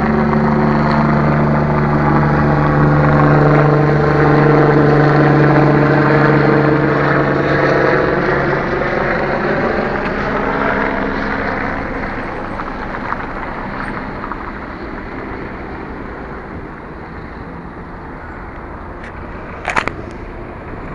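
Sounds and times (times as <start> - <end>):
helicopter droning hum: 0.0 - 20.9.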